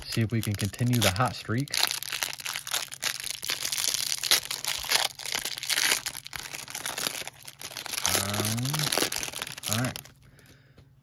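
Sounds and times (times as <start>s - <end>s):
packaging tearing and crinkling: 0.0s - 10.2s.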